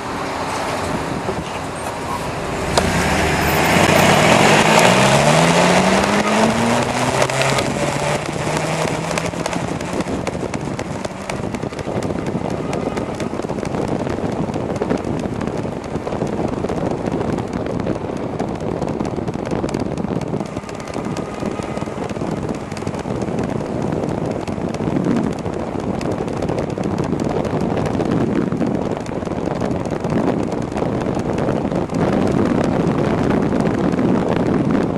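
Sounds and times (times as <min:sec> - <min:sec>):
road noise: 0:00.0 - 0:34.9
wind buffeting microphone: 0:00.0 - 0:34.9.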